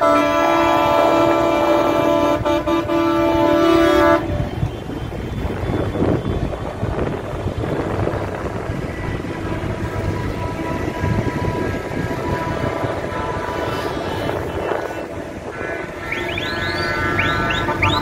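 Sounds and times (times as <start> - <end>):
tractor engines running: 0.0 - 18.0
vehicle horns: 0.0 - 18.0.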